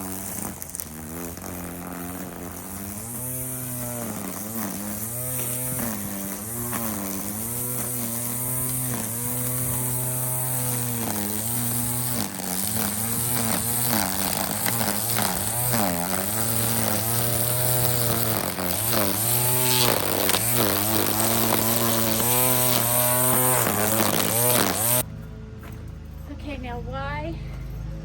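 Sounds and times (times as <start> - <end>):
string trimmer motor whine: 0.0 - 25.1.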